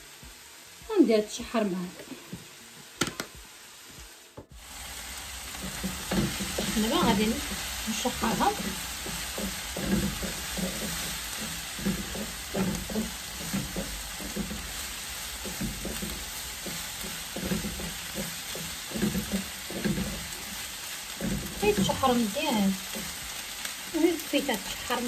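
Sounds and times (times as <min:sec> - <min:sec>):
vegetables sizzling in a wok: 0:00.0 - 0:25.0
wooden spatula scraping: 0:04.4 - 0:25.0.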